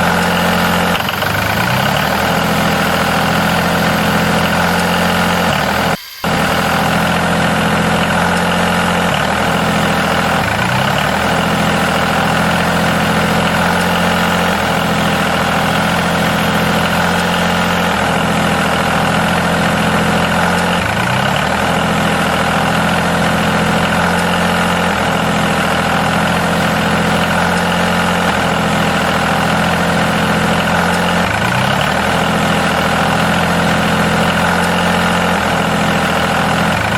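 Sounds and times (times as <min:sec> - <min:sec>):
engine idling: 0:00.0 - 0:36.9.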